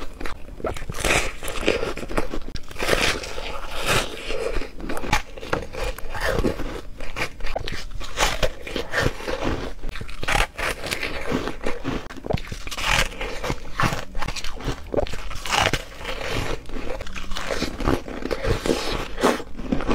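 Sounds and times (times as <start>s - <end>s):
crunchy chewing: 0.0s - 19.9s.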